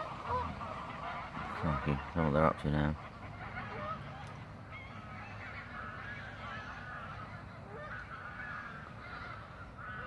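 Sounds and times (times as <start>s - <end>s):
flock of geese honking: 0.0s - 10.0s.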